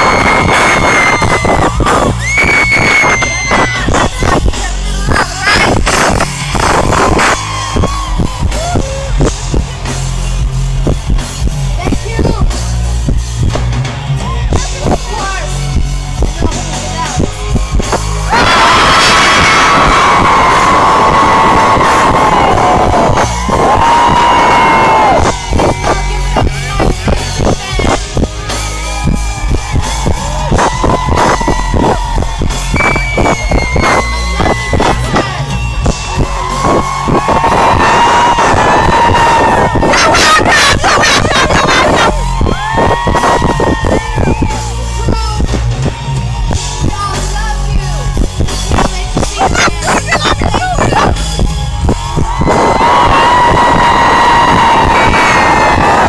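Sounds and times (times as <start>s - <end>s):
live rock band playing: 0.0s - 56.0s
steady drumbeat: 0.0s - 56.0s
sustained bass notes: 0.0s - 56.0s.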